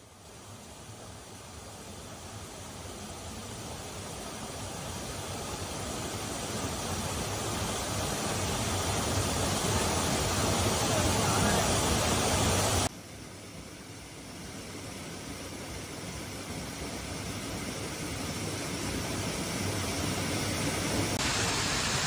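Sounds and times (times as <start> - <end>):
hiss of water: 0.0 - 22.0.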